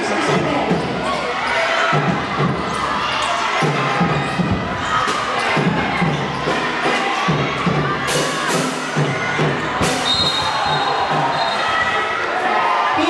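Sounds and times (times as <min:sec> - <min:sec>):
crowd shouting and cheering: 0:00.0 - 0:13.0.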